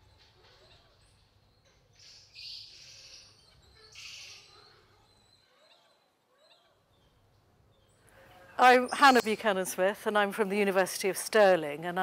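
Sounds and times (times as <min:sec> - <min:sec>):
faint high chirping calls: 0:00.0 - 0:09.8.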